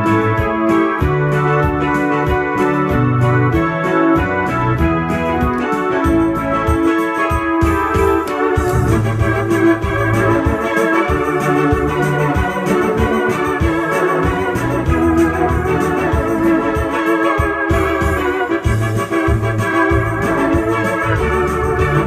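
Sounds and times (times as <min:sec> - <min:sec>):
electronic keyboard organ chords: 0:00.0 - 0:22.0.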